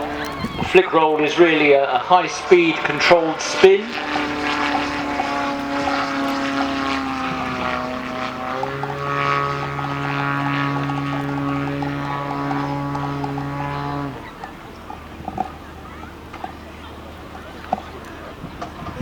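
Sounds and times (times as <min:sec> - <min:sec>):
model airplane engine droning: 0:00.0 - 0:19.0.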